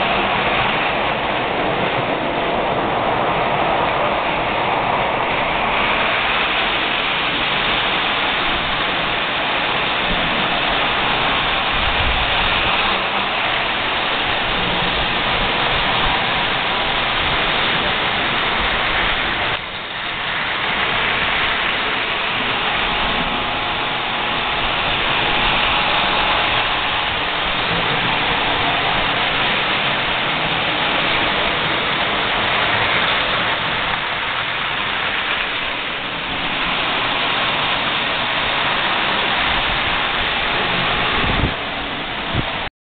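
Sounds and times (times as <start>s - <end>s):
model trains rattling on track: 0.0s - 42.7s.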